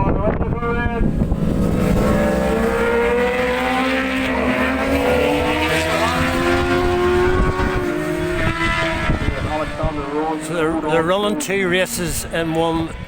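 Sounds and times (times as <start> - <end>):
racing motorcycles accelerating: 0.5 - 13.0.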